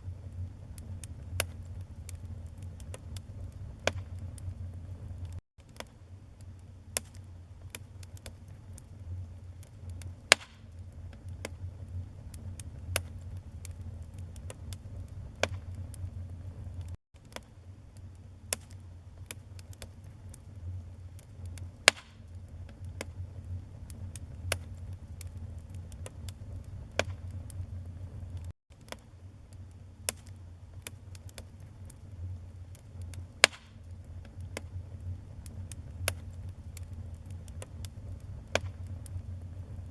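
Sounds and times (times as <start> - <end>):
logs crackling and popping: 0.0 - 39.9
wood fire burning: 0.0 - 39.9.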